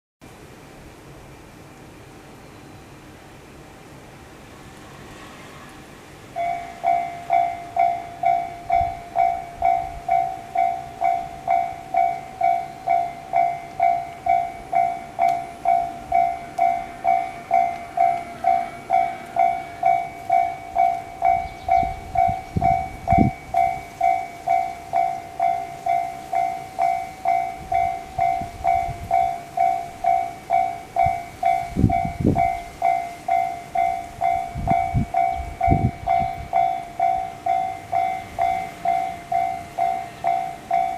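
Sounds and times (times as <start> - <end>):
level-crossing electronic bell: 6.4 - 40.9.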